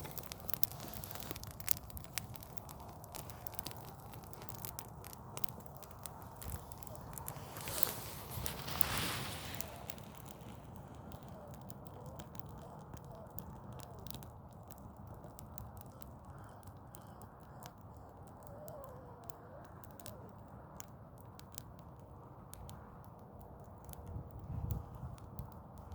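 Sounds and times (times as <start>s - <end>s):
fire crackling and popping: 0.0s - 25.9s
low fire rumble: 0.0s - 25.9s.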